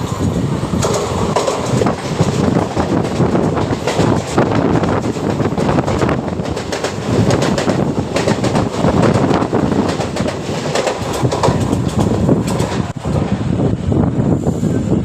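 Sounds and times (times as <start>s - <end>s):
electric train wheels clattering: 0.0s - 15.0s.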